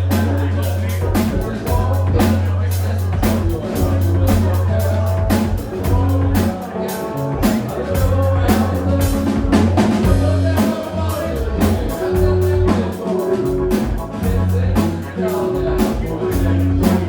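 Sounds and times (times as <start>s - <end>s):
drum strikes: 0.0s - 17.0s
live rock band playing: 0.0s - 17.0s.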